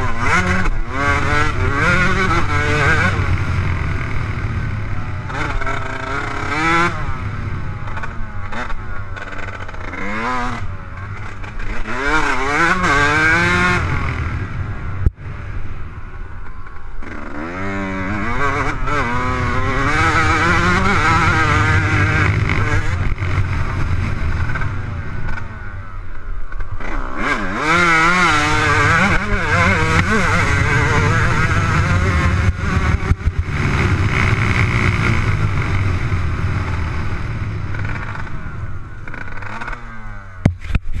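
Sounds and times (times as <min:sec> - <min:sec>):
motocross bike engine revving: 0:00.0 - 0:41.0.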